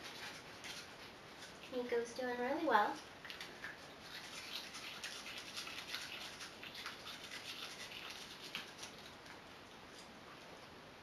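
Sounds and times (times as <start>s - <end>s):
toothbrush scrubbing teeth: 0.0s - 10.1s.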